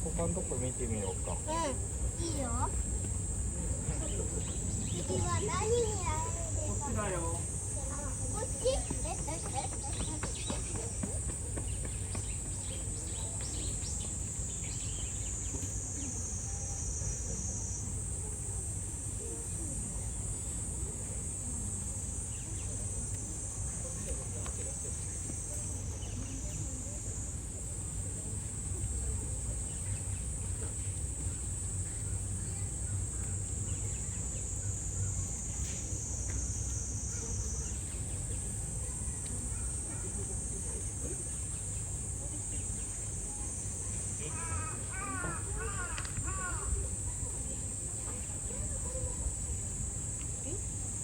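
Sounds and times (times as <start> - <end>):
cicadas buzzing: 0.0 - 51.0
low outdoor hubbub: 0.0 - 51.0.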